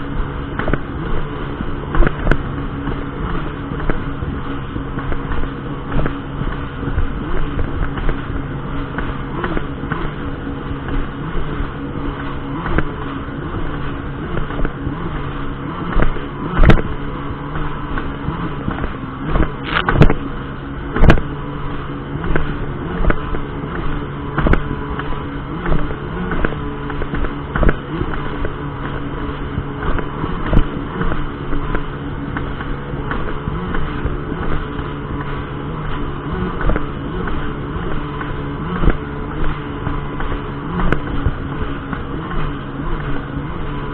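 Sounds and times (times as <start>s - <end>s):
jet ski engine droning: 0.0s - 43.9s.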